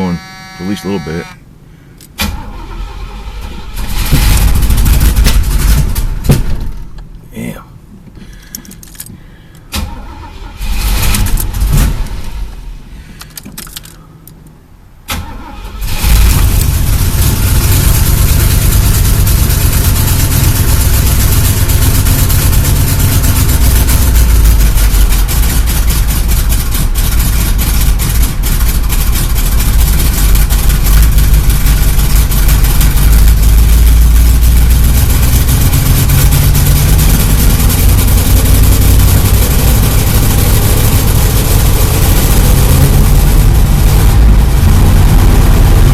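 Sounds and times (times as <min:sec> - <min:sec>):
car engine cranking and starting: 0:00.0 - 0:07.3, 0:07.9 - 0:45.9.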